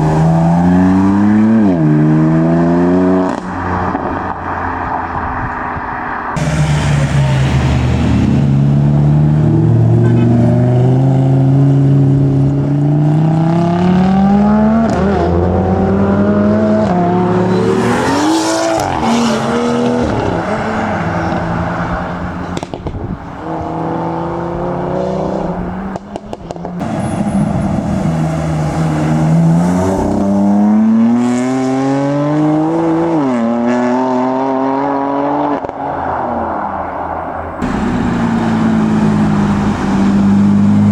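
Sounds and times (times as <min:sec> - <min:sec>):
cars accelerating hard: 0:00.0 - 0:40.9.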